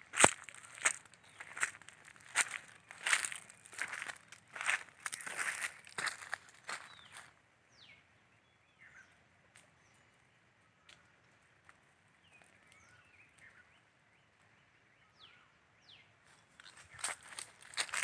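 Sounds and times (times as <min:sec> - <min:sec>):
bird chirps: 0:00.6 - 0:11.4, 0:12.2 - 0:18.0.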